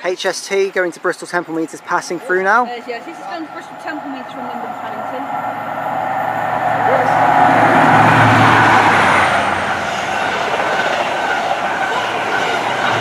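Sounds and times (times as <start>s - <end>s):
diesel train passing: 0.6s - 13.0s.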